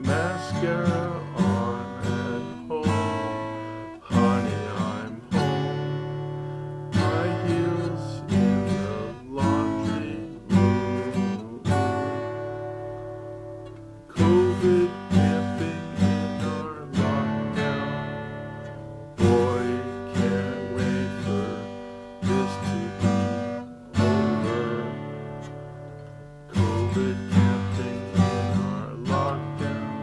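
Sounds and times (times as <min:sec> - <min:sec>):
acoustic guitar piece: 0:00.0 - 0:30.0.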